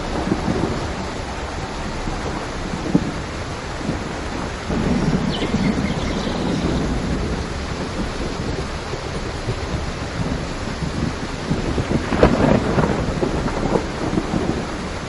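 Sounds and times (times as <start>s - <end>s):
heavy rain: 0.0s - 15.0s
low rumble of thunder: 0.0s - 15.0s.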